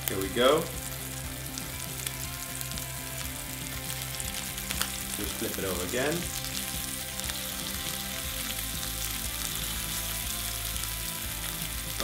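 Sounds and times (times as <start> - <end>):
crab legs sizzling in butter: 0.0 - 12.0.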